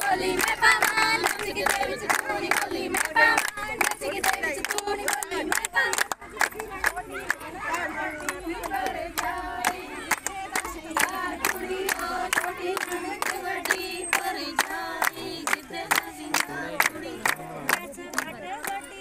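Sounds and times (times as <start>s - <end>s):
rhythmic hand clapping: 0.0s - 19.0s
women singing in chorus: 0.0s - 19.0s.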